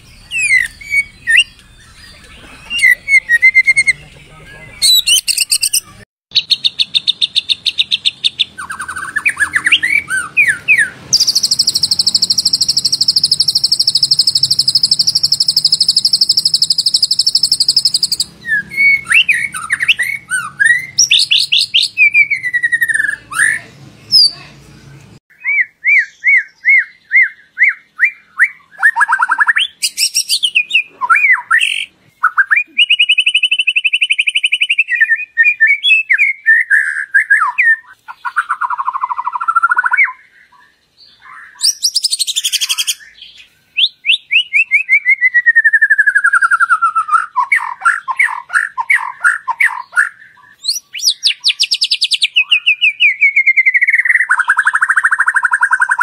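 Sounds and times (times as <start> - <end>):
songbird trills and whistles: 0.0 - 23.6, 25.3 - 56.0.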